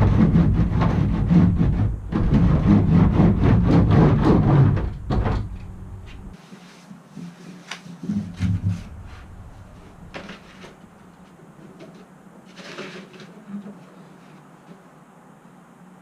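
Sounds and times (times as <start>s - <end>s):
rubbing and rumbling on metal panel: 0.0s - 6.4s, 7.2s - 14.0s.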